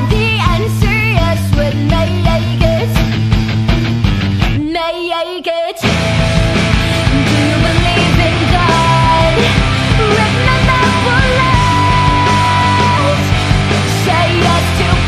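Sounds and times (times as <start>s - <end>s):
loud rock music: 0.0s - 5.1s, 5.8s - 15.0s.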